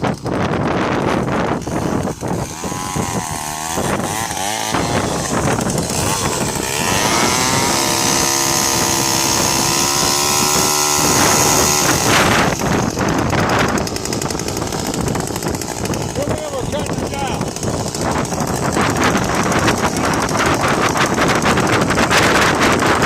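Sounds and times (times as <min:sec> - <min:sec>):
chainsaw engine revving: 0:00.0 - 0:23.0.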